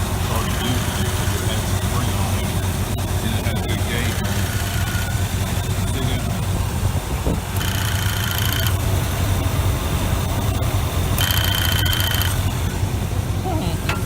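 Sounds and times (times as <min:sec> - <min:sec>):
car engine idling: 0:00.0 - 0:14.0
rapidly pulsing electronic beep: 0:00.3 - 0:12.9.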